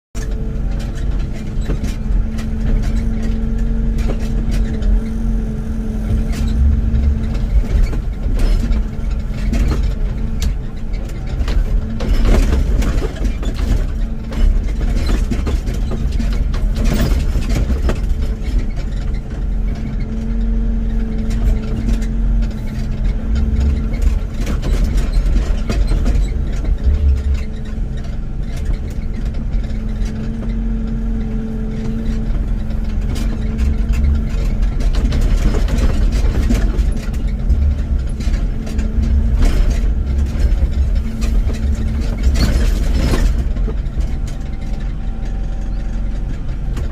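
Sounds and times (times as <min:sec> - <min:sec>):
excavator diesel engine running: 0:00.2 - 0:46.9
knocks and scraping from machine: 0:00.2 - 0:46.9.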